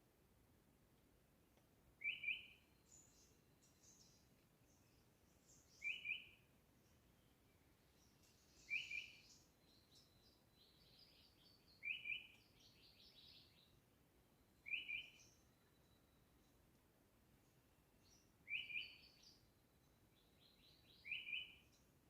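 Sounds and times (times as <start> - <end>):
birds chirping faintly: 1.0 - 22.0.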